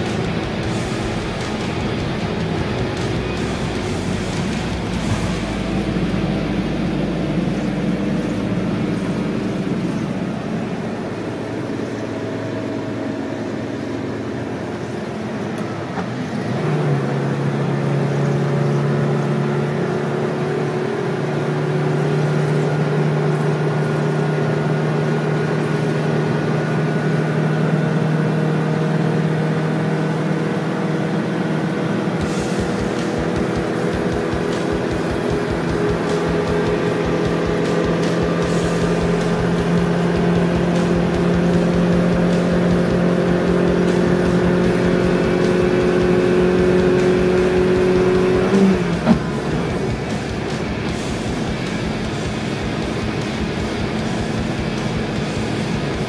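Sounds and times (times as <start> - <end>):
hum: 0.0 - 26.0, 32.0 - 56.0
road and engine noise in car: 0.0 - 56.0.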